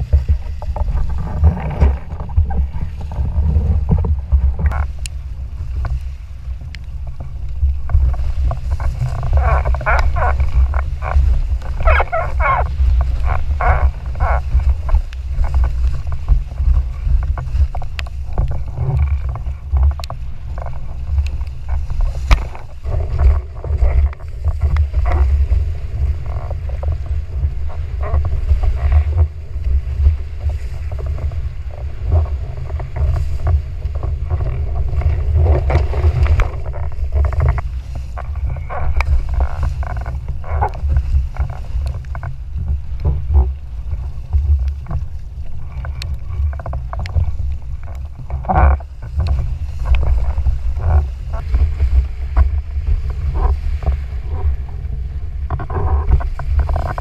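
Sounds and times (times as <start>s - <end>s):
water rushing and splashing: 0.0s - 57.0s
wind buffeting microphone: 0.0s - 57.0s.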